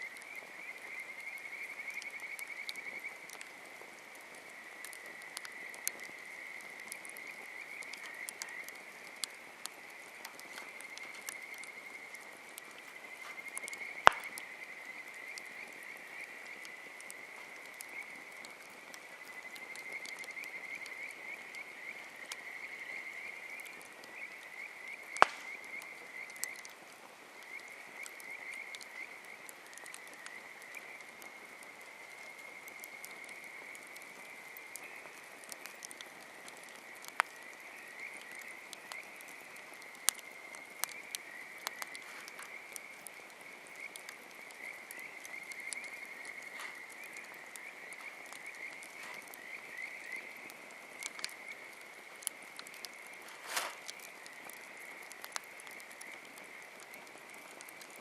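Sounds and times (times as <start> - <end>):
frogs trilling: 4.3 - 58.0
campfire pops: 4.8 - 58.0.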